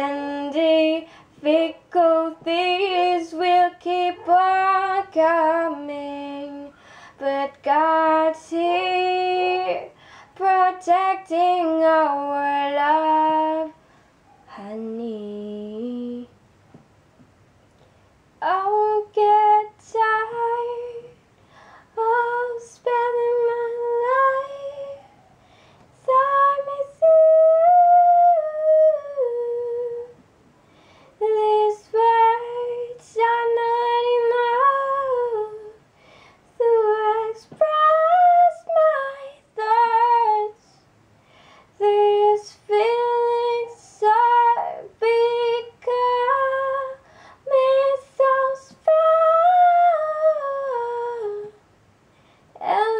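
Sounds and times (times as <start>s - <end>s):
woman singing wordless melody: 0.0s - 16.4s, 18.4s - 25.0s, 26.0s - 30.2s, 31.2s - 35.9s, 36.5s - 40.9s, 41.7s - 51.7s, 52.5s - 52.9s.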